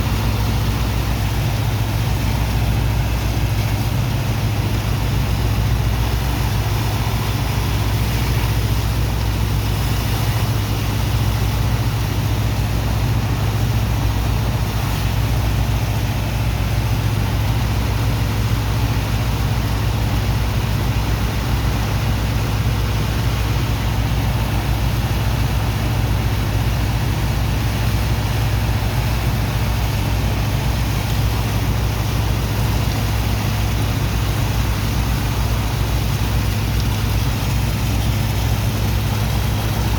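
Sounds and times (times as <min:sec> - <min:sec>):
pump engine humming: 0:00.0 - 0:39.9
rushing water and sand: 0:00.0 - 0:39.9.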